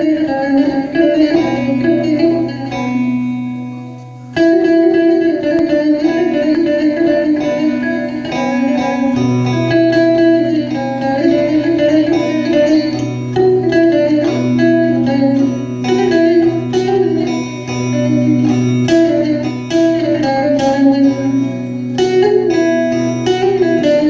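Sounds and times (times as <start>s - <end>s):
plucked string folk tune: 0.0s - 24.0s.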